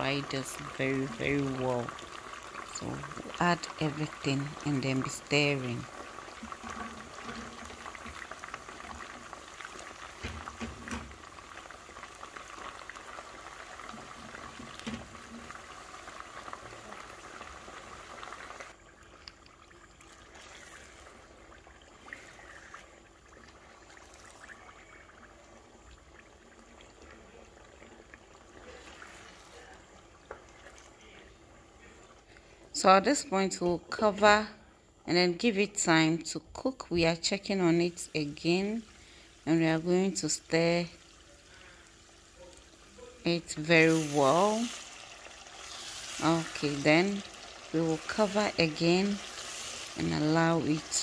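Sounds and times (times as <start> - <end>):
chili paste sizzling in oil: 0.0 - 34.2, 35.4 - 51.0.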